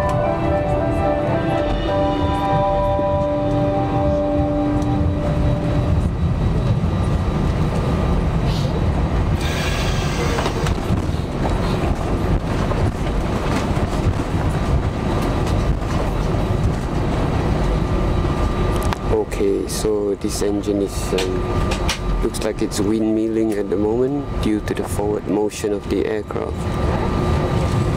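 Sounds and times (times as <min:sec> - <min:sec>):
aircraft engine rumble: 0:00.0 - 0:27.9.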